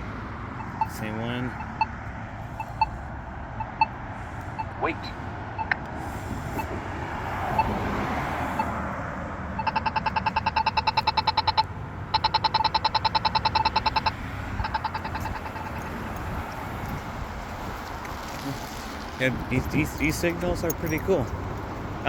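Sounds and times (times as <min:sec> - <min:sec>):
pedestrian signal rapid ticking: 0:00.0 - 0:05.9, 0:06.5 - 0:18.0, 0:19.2 - 0:22.0
traffic noise: 0:00.0 - 0:22.0.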